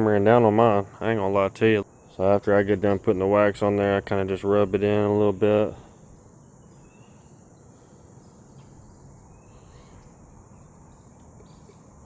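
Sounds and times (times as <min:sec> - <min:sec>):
crickets chirping: 0:00.0 - 0:12.0
faint low background hum: 0:00.0 - 0:12.0.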